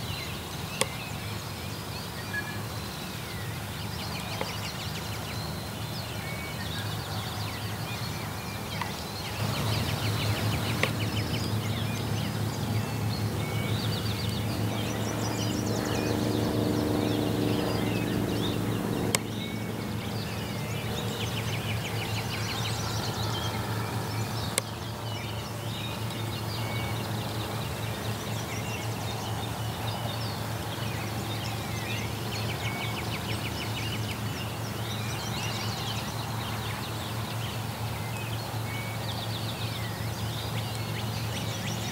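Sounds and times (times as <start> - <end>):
songbirds singing: 0.0 - 41.9
steady low hum: 0.4 - 41.9.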